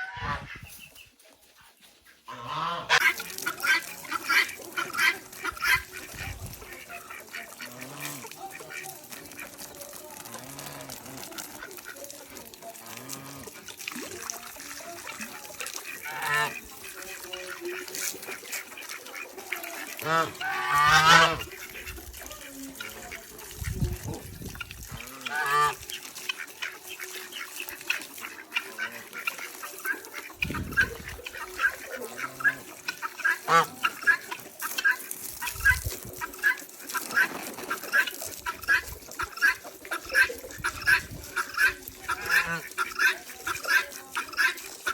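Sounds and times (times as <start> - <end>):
poultry calling: 0.0 - 9.6, 14.8 - 23.4, 24.0 - 44.9.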